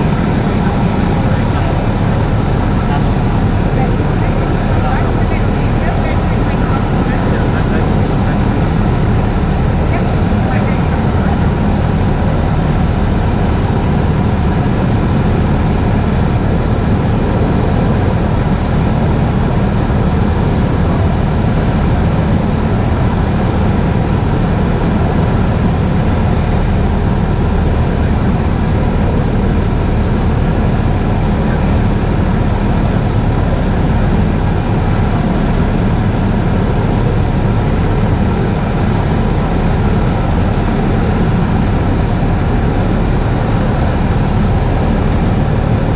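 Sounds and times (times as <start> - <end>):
propeller plane engine droning: 0.0 - 45.9.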